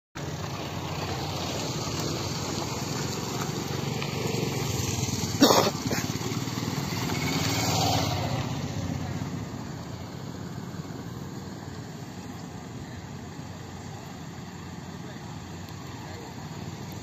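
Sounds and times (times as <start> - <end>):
small engine running steadily: 0.2 - 17.0.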